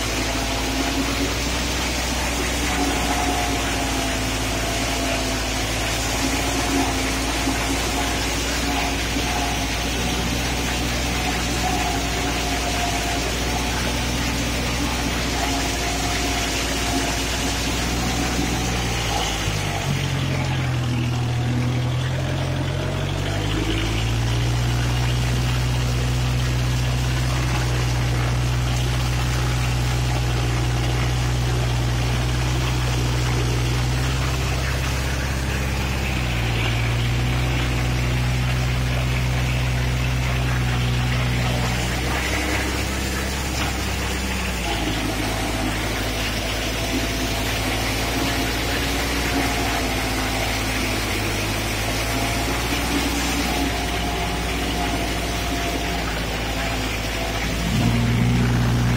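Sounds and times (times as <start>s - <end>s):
thin steady whine: 0.0s - 58.9s
tractor diesel engine running: 0.0s - 58.9s
wheels splashing through mud: 0.0s - 58.9s.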